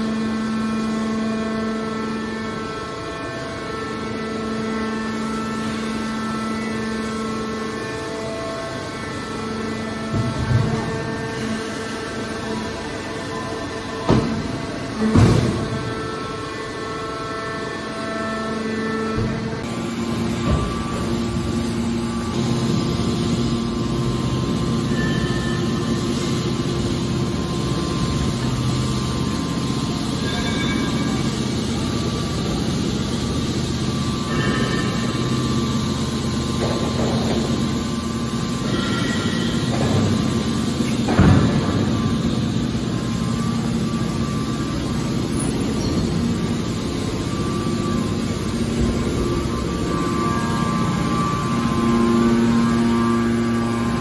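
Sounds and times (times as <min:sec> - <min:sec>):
hydraulic pump hum: 0:00.0 - 0:54.0.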